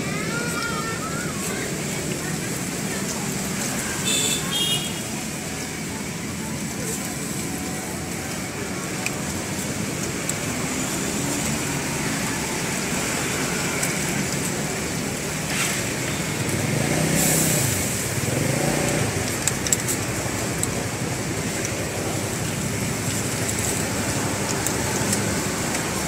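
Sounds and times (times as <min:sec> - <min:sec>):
street traffic: 0:00.0 - 0:26.0
oil frying in a wok: 0:01.7 - 0:26.0.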